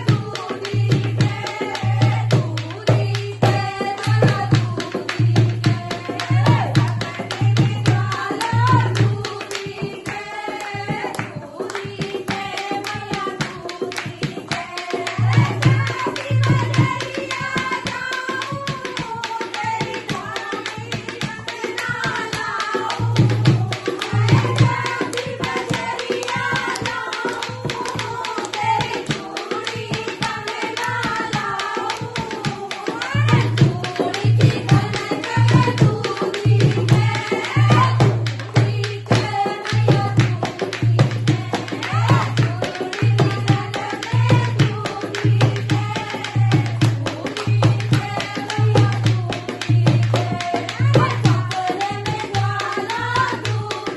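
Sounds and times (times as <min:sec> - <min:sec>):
dholak playing fast rhythm: 0:00.0 - 0:53.9
hand drum fast beat: 0:00.0 - 0:53.9.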